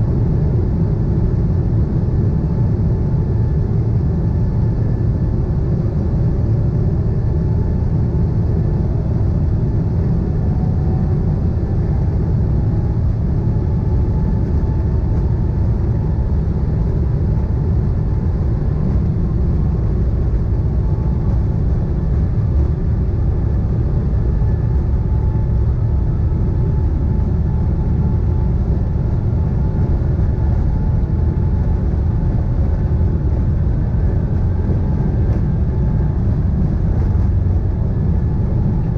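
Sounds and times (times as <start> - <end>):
jet engines deep rumble: 0.0 - 38.9.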